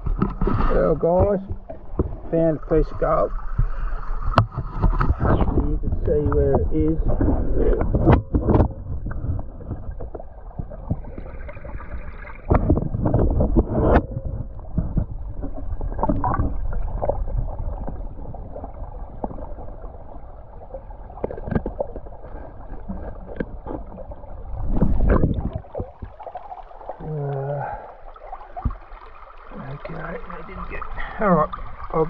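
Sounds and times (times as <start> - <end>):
muffled underwater gurgling rush: 0.0 - 32.0.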